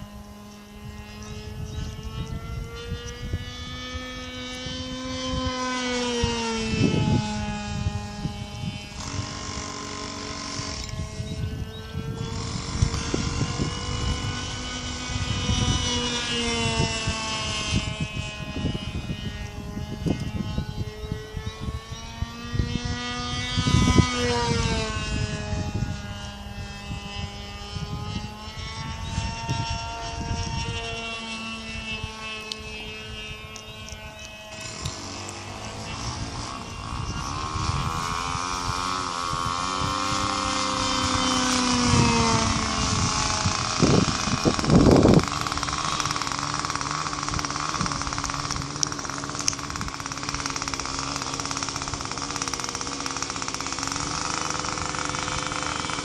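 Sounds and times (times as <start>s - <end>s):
model airplane engine in flight: 0.0s - 56.0s
wind gusting on microphone: 0.0s - 56.0s.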